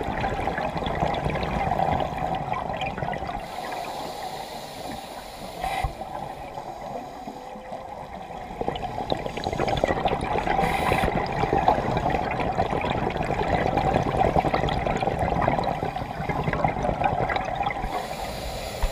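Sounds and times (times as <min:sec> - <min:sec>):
underwater air bubbles: 0:00.0 - 0:18.9.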